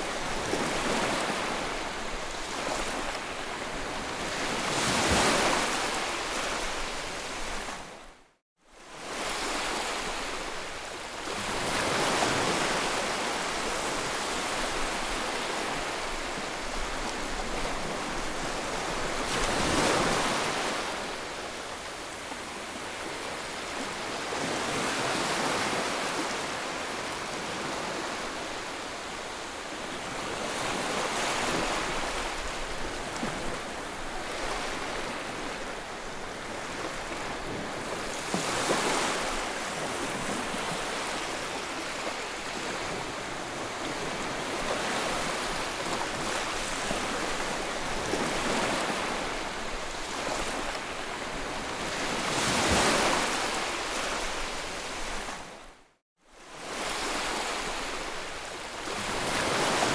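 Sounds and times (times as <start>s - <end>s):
waves washing onto a shore: 0.0s - 8.2s, 8.8s - 55.8s, 56.4s - 59.9s.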